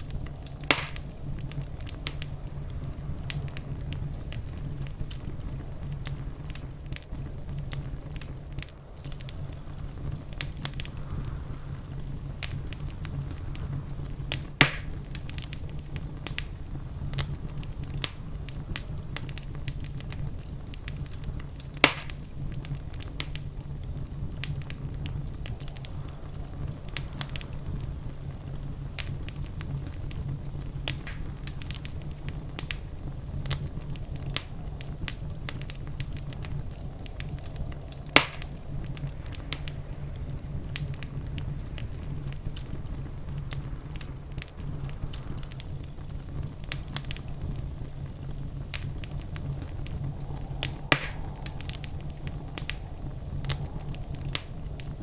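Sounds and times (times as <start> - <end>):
loud fire snaps: 0.0 - 55.0
low rumble: 0.0 - 55.0
wood fire crackling: 0.0 - 55.0.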